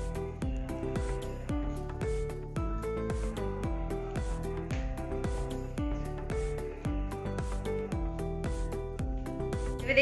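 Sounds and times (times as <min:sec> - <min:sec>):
music with deep thudding beat: 0:00.0 - 0:10.0.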